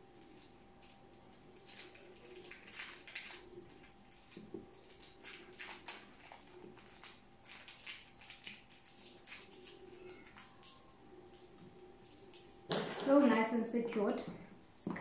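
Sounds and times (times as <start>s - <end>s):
plastic cling film crinkling: 0.0s - 13.5s.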